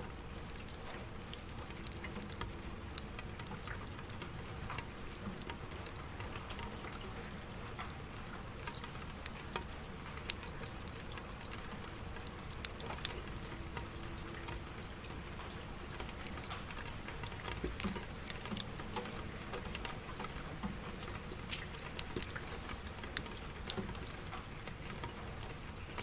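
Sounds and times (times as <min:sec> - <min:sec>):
steady rain patter: 0:00.0 - 0:26.0
raindrops ticking sharply: 0:00.2 - 0:26.0.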